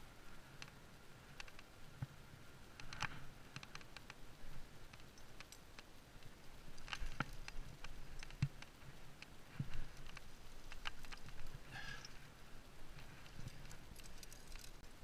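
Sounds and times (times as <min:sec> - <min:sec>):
climbing gear clicking on rock: 0:00.5 - 0:01.7, 0:02.7 - 0:15.0.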